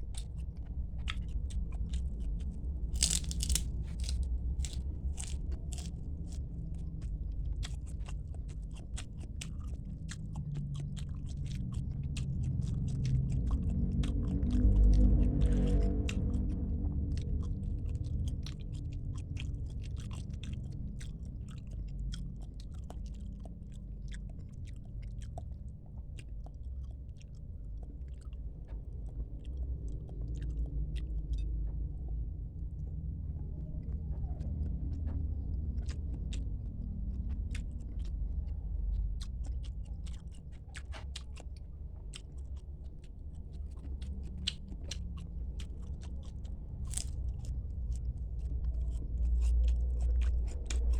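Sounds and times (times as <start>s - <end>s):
wet chewing: 0.0s - 31.9s, 33.8s - 50.9s
steady low rumble: 0.0s - 50.9s.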